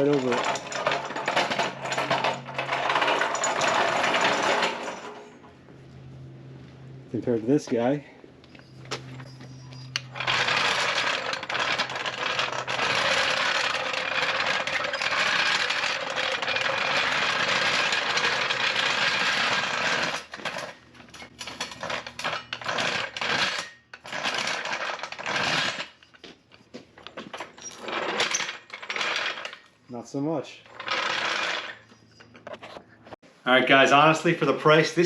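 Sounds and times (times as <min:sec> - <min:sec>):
floor jack rolling on concrete: 0:00.0 - 0:05.6, 0:08.4 - 0:29.8, 0:30.6 - 0:33.2.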